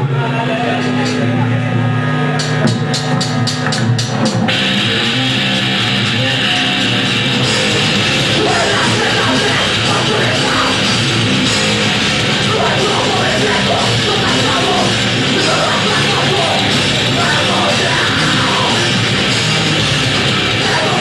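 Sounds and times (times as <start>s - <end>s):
live rock band playing: 2.3s - 21.0s.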